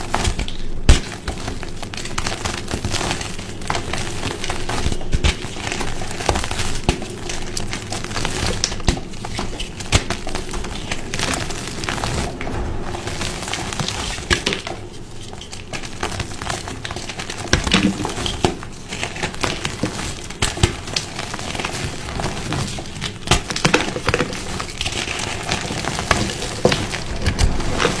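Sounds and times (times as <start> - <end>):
chalk crunching and crackling: 0.0 - 28.0.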